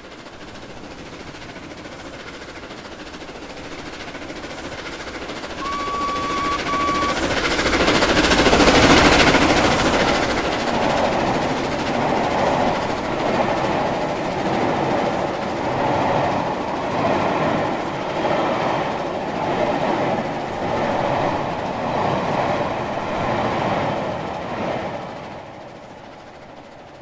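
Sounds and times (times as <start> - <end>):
train rolling on rails: 0.0 - 27.0.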